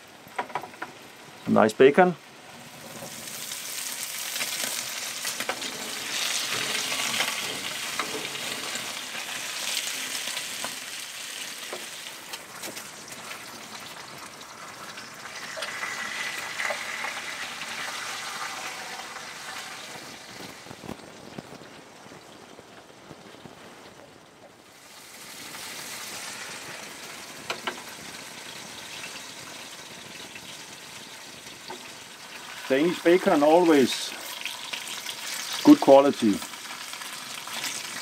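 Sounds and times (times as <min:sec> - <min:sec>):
bacon sizzling in a pan: 0:00.0 - 0:38.0.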